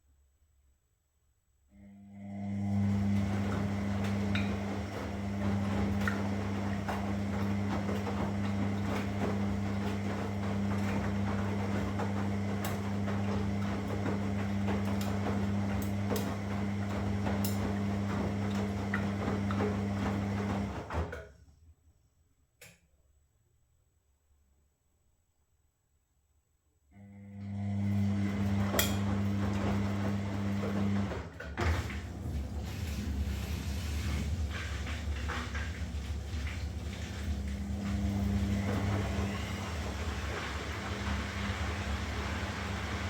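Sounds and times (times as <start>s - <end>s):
washing machine running: 1.8s - 21.4s, 27.0s - 43.0s.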